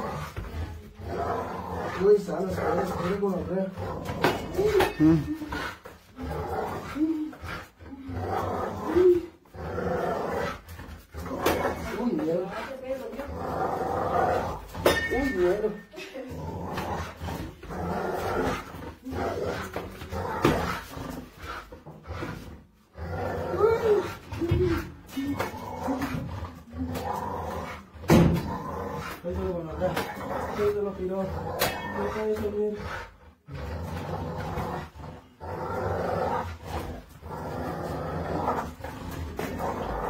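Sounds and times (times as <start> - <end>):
dog growling: 0.0 - 40.0.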